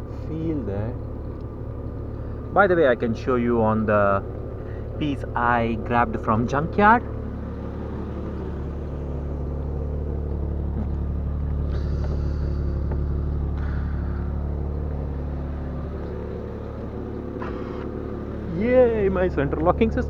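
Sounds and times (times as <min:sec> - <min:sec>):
car engine idling: 0:00.0 - 0:20.0
engine knocks: 0:00.0 - 0:20.0.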